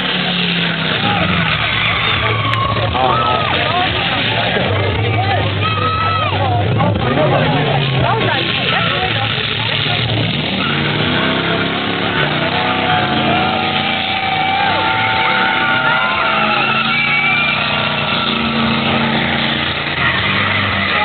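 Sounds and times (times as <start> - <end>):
car engine revving high: 0.0 - 21.0
tires squealing: 0.0 - 21.0.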